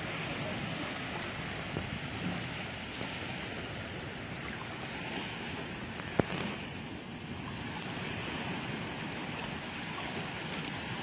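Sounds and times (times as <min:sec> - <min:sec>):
shallow sea water: 0:00.0 - 0:11.0
steady wind: 0:00.0 - 0:11.0.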